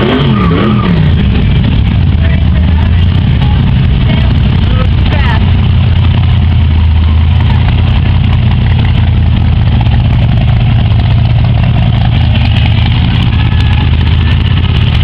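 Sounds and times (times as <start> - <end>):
hot rod engine idling: 0.0 - 15.0.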